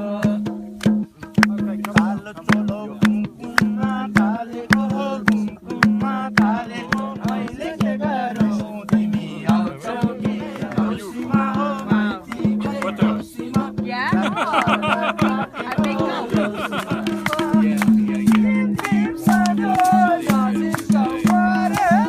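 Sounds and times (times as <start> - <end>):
fast hand drum rhythm: 0.0 - 22.0
person singing: 1.3 - 22.0.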